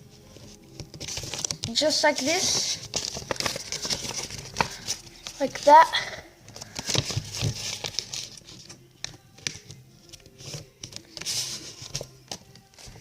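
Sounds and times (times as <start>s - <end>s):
paper crinkling and rustling: 0.3s - 5.8s, 6.5s - 13.0s.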